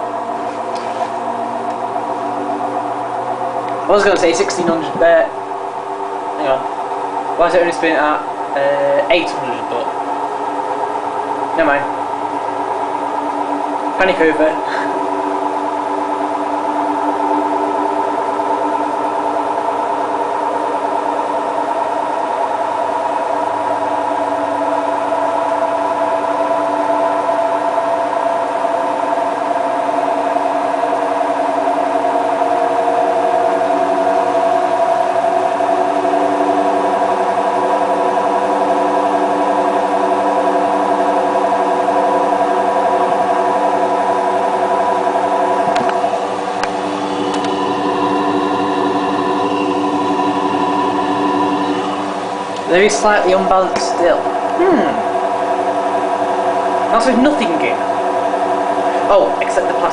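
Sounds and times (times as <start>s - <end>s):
washing machine motor whine: 0.0s - 59.9s.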